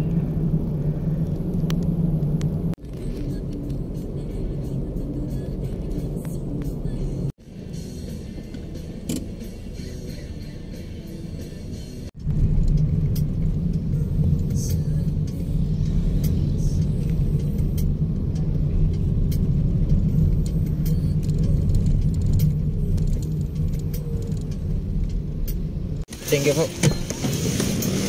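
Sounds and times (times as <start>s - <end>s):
car engine and road noise: 0.0s - 28.0s
street sound: 0.0s - 28.0s.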